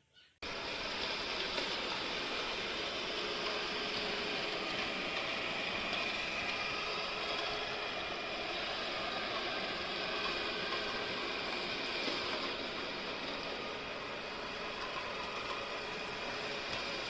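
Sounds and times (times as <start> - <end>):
robot vacuum whirring: 0.4 - 17.0.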